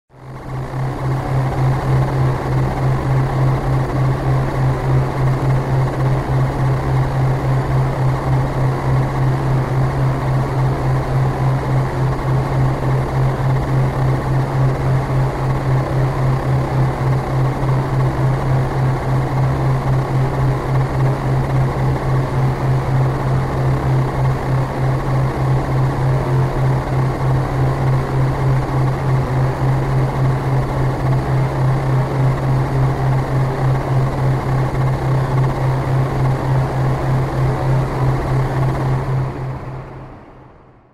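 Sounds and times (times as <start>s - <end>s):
pulsing low synthesized hum: 0.1s - 40.9s.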